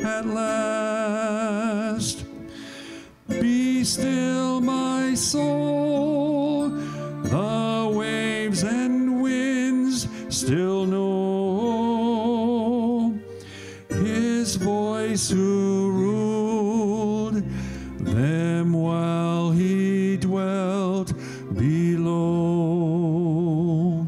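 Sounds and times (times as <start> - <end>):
person singing slow song: 0.0 - 24.0.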